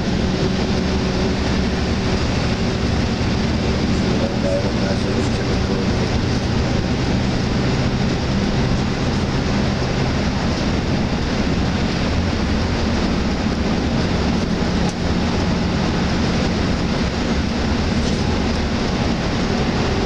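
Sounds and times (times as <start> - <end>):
diesel engine drone: 0.0 - 20.0
road noise inside coach: 0.0 - 20.0.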